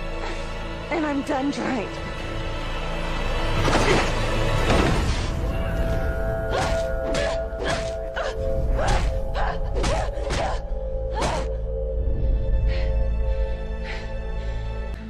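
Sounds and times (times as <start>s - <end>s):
tense film score: 0.0s - 15.0s.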